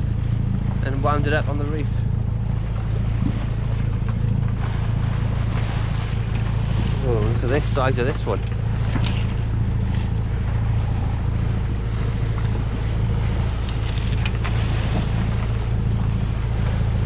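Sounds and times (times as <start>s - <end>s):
boat engine droning: 0.0s - 17.0s
rushing sea water: 0.0s - 17.0s.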